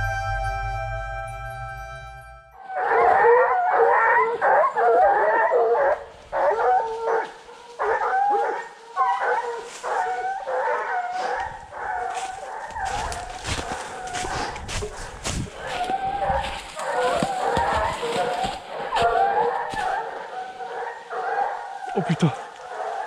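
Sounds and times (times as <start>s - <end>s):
hounds baying: 2.6s - 23.0s.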